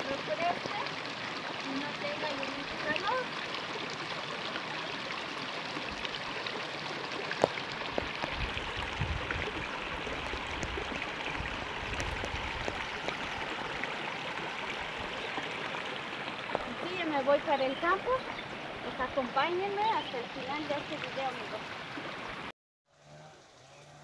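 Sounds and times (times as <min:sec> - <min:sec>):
stream babbling over stones: 0:00.0 - 0:24.0.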